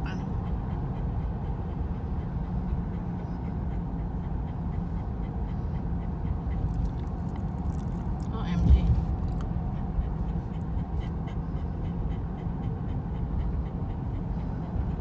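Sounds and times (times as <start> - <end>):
car engine and tyres rumbling: 0.0 - 15.0
dog panting: 0.0 - 15.0.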